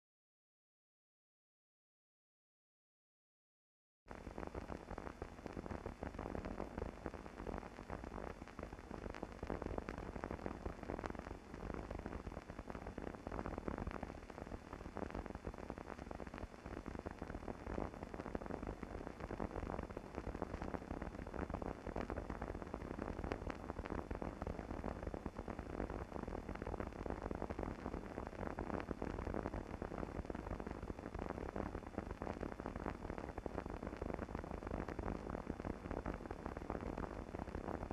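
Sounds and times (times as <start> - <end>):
film soundtrack hiss and crackle: 4.1 - 37.9.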